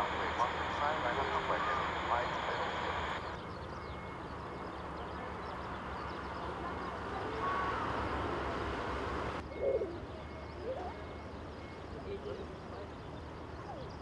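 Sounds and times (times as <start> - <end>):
distant jet engines rumbling: 0.0 - 14.0
faint bird calls: 0.0 - 14.0.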